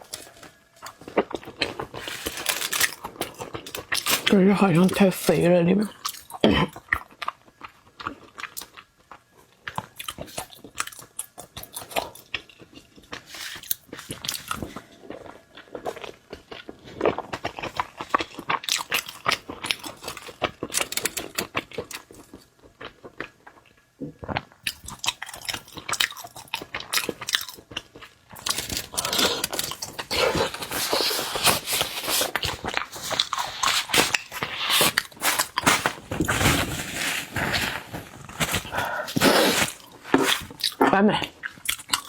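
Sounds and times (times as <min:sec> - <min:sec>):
chewing crunchy seafood: 0:00.0 - 0:42.0.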